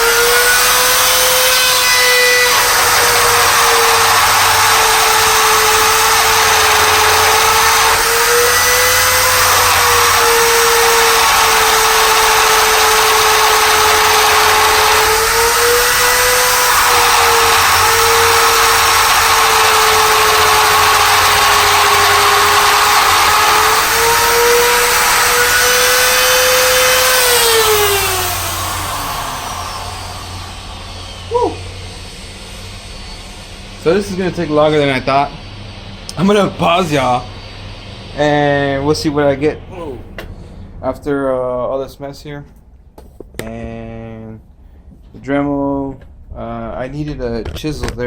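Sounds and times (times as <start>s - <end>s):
rotary tool whining and grinding: 0.0s - 39.3s.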